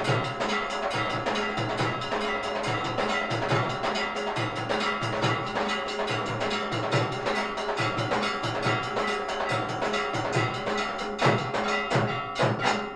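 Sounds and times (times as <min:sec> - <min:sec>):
bells ringing in fast clatter: 0:00.0 - 0:12.9
steady drum beat: 0:00.0 - 0:12.9.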